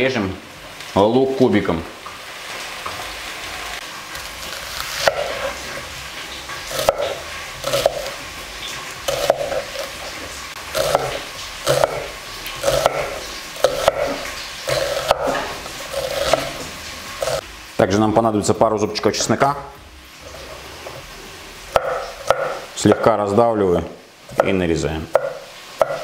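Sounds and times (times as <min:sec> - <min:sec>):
vegetables frying in oil: 0:00.0 - 0:26.0.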